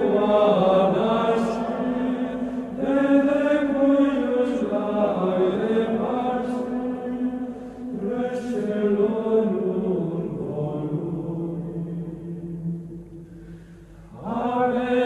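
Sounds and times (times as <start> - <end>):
slow sung chant: 0.0 - 15.0.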